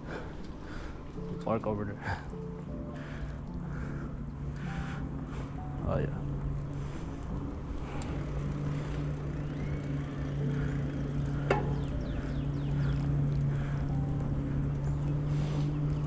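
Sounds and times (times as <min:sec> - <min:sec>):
bicycle rolling on trail: 0:00.0 - 0:16.0.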